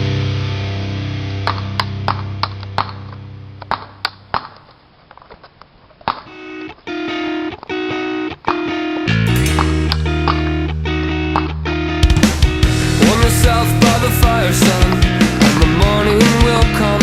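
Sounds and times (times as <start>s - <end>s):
rock band playing: 0.0s - 3.6s, 6.3s - 17.0s
distorted electric guitar: 0.0s - 4.0s, 6.3s - 17.0s.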